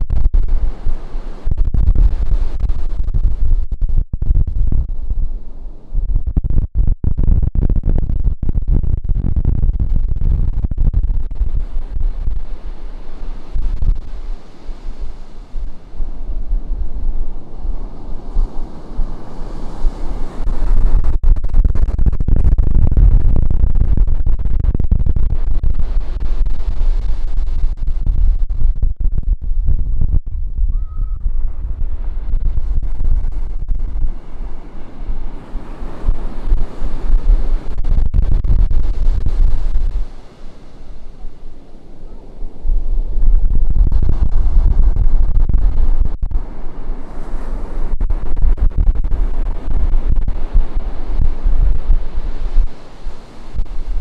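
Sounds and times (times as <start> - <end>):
surf: 0.0 - 54.0
wind buffeting microphone: 0.0 - 54.0.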